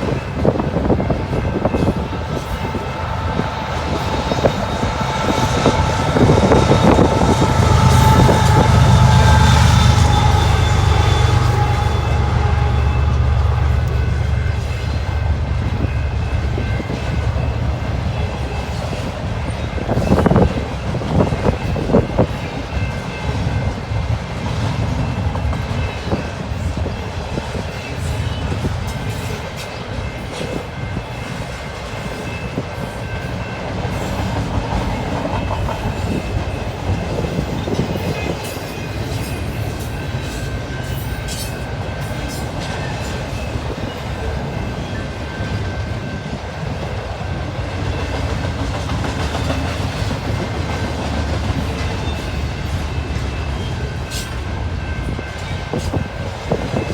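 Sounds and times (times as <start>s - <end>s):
freight train rumbling: 0.0s - 56.9s.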